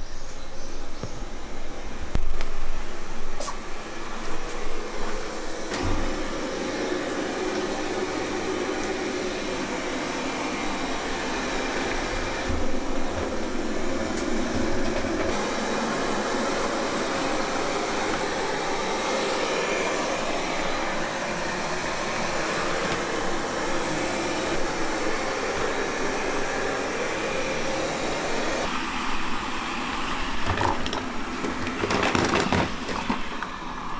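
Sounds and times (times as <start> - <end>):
robot vacuum whirring: 2.6 - 33.9.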